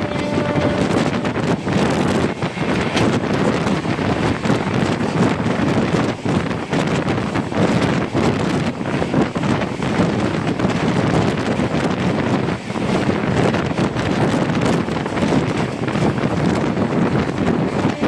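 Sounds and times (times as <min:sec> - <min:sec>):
train rumbling on track: 0:00.0 - 0:18.0
wind buffeting microphone: 0:00.0 - 0:18.0.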